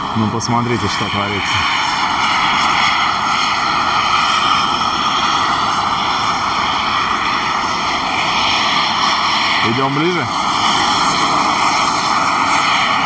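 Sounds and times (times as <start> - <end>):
steam jetting from a vent: 0.0 - 13.0.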